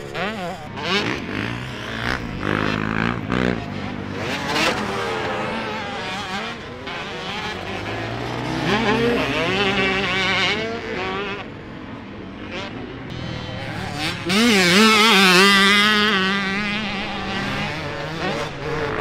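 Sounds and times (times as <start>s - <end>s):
motocross bike engine revving: 0.0s - 11.8s, 12.4s - 19.0s.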